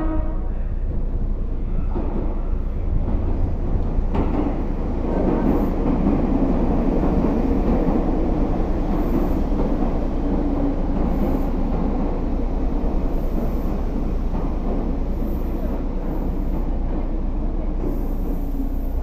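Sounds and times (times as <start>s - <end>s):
rumble of train wheels: 0.0s - 19.0s.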